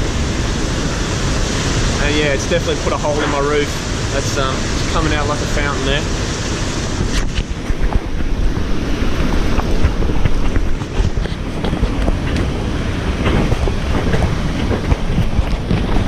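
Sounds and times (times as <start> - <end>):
rain taps and water splashes: 0.0 - 16.0
strong wind rumbling: 0.0 - 16.0.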